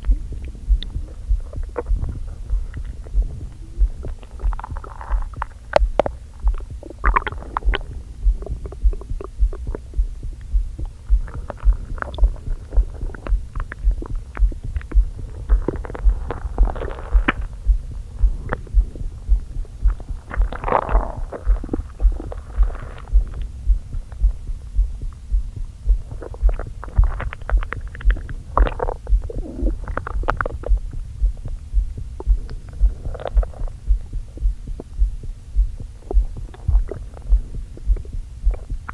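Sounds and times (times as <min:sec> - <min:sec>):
heartbeat thumping: 0:00.0 - 0:38.9
stomach gurgling: 0:00.0 - 0:38.9.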